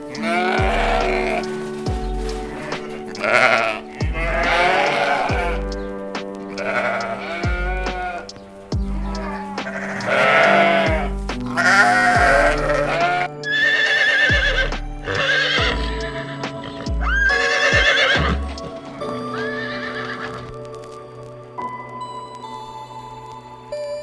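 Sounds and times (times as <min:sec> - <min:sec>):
wavering animal calls: 0:00.0 - 0:20.5
background music with beat: 0:00.0 - 0:24.0.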